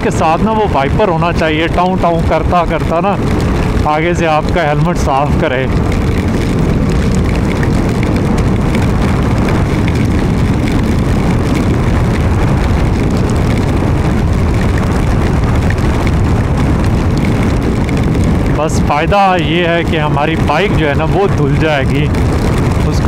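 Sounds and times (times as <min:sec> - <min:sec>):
wet road noise: 0:00.0 - 0:23.0
wind hitting microphone: 0:00.0 - 0:23.0
wind rushing: 0:00.0 - 0:23.0.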